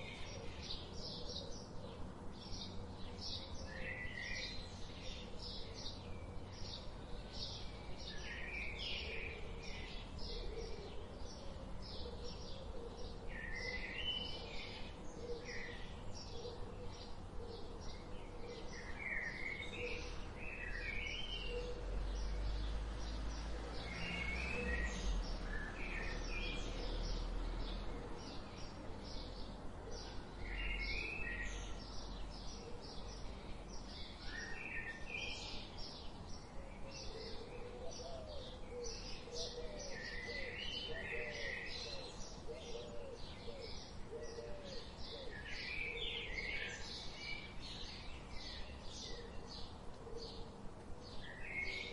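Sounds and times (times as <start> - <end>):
birds chirping and singing: 0.0 - 51.9.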